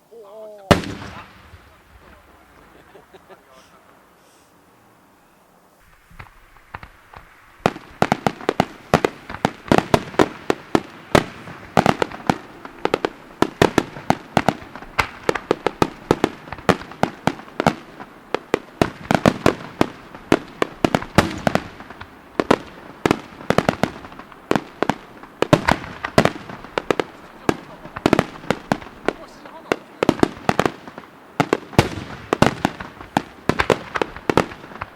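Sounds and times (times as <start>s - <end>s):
firework shells bursting: 0.7s - 2.7s, 5.8s - 34.9s.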